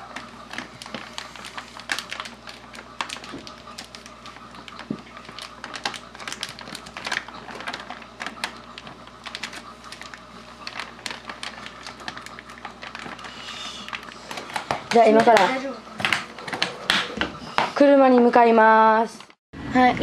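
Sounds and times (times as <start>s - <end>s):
plastic bag crinkling: 0.0s - 16.7s.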